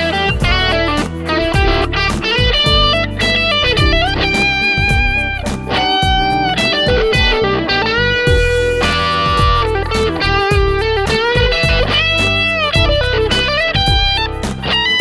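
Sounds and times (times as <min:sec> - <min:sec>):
steady low beat: 0:00.0 - 0:07.5, 0:08.3 - 0:15.0
overdriven electric guitar lead: 0:00.0 - 0:15.0.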